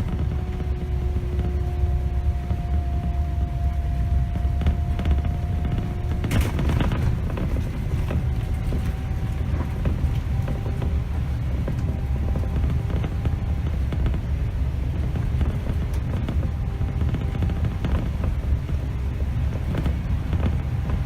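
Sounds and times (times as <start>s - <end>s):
diesel bus engine rumble: 0.0s - 21.0s
light rattles and clicks: 0.0s - 21.0s.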